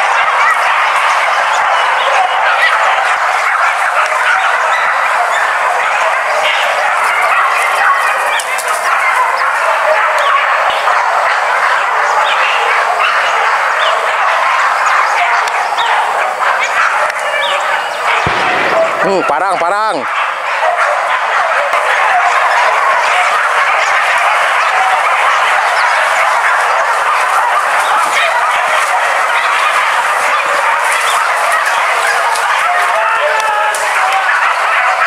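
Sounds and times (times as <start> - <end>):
dogs barking and yelping: 0.0 - 35.0.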